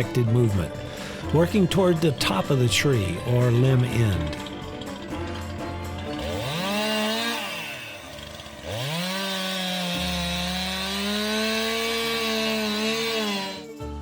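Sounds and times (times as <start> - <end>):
chainsaw engine revving: 0.0 - 13.8.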